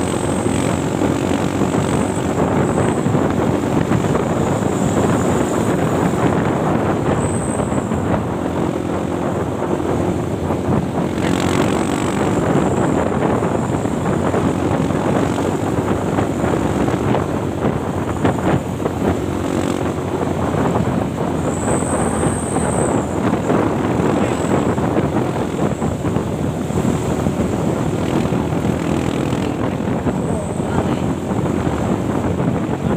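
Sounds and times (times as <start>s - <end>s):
road rumble: 0.0s - 32.9s
wind buffeting microphone: 0.0s - 32.9s.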